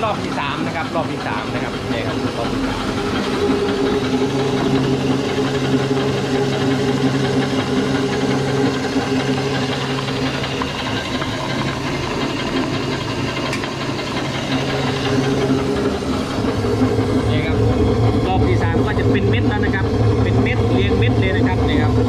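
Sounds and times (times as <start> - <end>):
pellet mill humming: 0.0 - 22.0.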